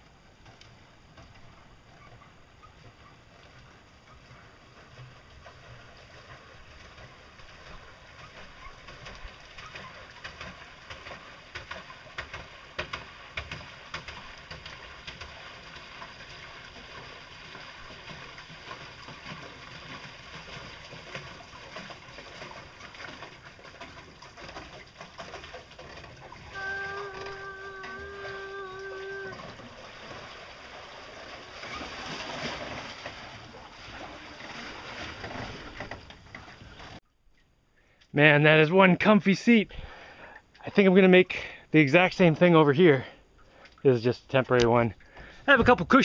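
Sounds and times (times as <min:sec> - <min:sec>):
paddle wheel churning water: 0:00.0 - 0:37.0, 0:38.2 - 0:46.0.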